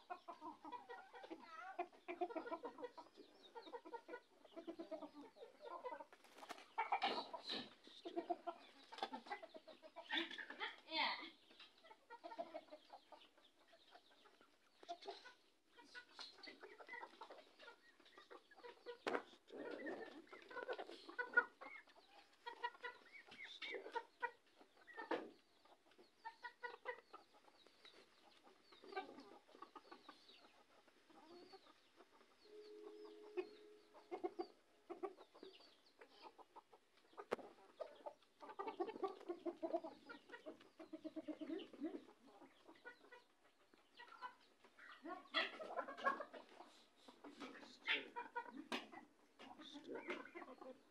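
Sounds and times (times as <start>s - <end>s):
chickens clucking: 0.0s - 50.9s.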